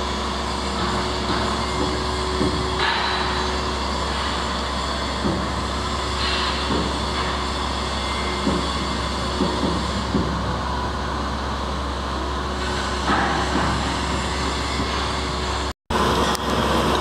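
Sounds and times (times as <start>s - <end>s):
crane diesel engine running: 0.0s - 17.0s.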